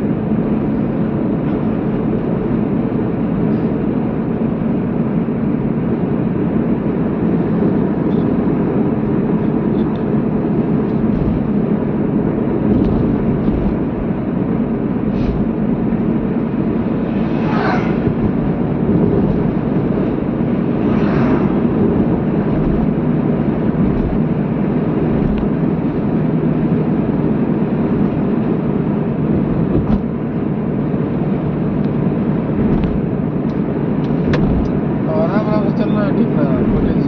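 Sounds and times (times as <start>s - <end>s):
car driving along a road: 0.0s - 37.0s.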